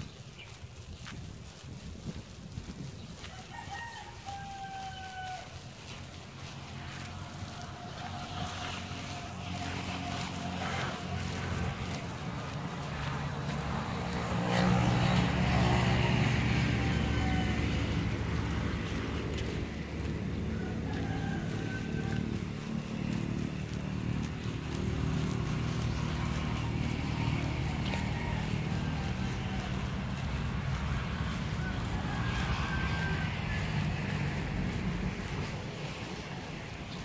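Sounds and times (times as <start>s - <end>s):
engine running: 0.0s - 3.4s, 5.3s - 37.0s.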